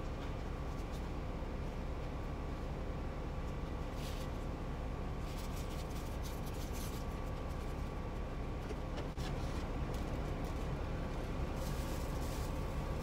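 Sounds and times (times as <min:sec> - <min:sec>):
air conditioning hum: 0:00.0 - 0:13.0.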